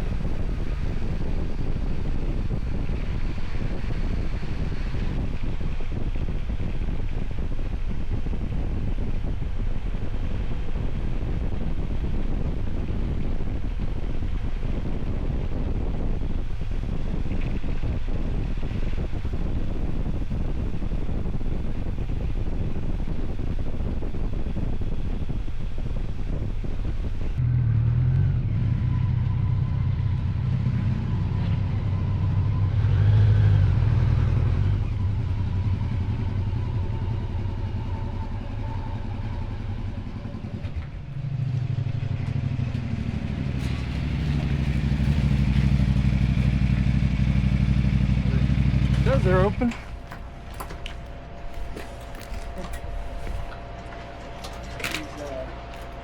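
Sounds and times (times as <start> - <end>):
motorcycle engine running: 0.0 - 54.6
wind noise: 0.0 - 56.0.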